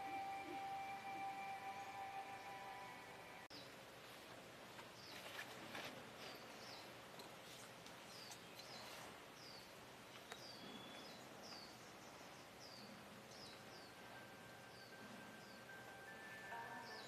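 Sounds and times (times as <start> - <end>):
bird chirping: 0.0 - 3.8, 6.2 - 17.0.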